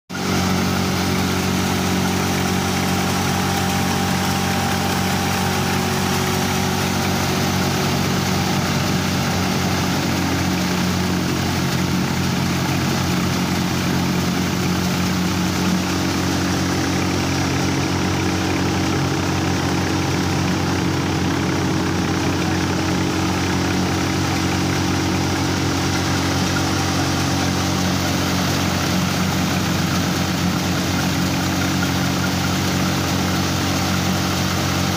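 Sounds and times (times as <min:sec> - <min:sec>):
thresher running: 0:00.1 - 0:34.9.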